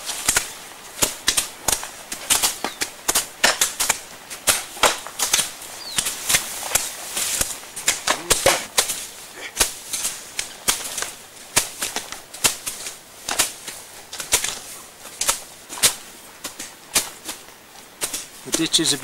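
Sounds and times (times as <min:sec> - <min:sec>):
grass tearing rustles: 0:00.0 - 0:19.0
hoes striking soil: 0:00.0 - 0:19.0.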